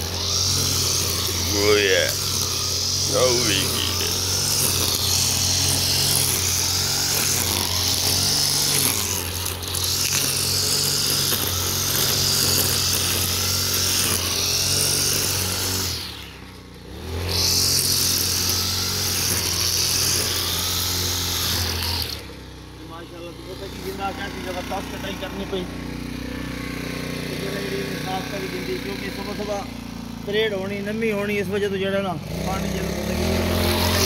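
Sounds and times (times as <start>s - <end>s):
brush cutter whirring through grass: 0.0s - 34.0s.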